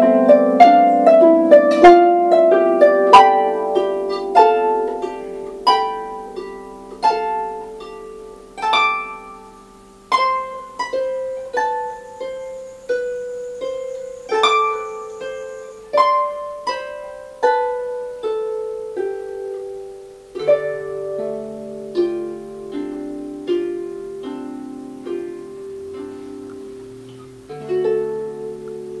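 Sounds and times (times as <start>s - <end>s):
harp melody: 0.0s - 29.0s.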